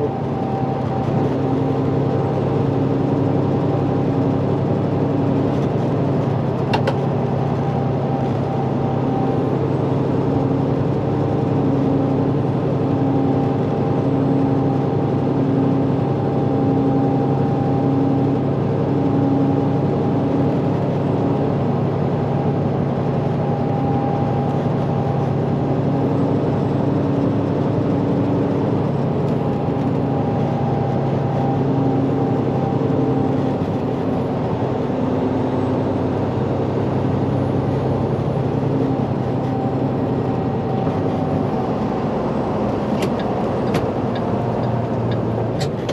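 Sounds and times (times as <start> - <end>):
road noise: 0.0 - 45.9
truck diesel engine running: 0.0 - 45.9.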